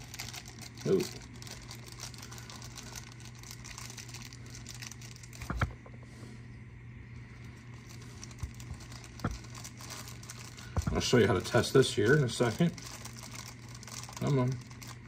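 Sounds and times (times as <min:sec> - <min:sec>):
plastic bag crinkling: 0:00.0 - 0:05.8, 0:07.4 - 0:15.0
steady low hum: 0:00.0 - 0:15.0.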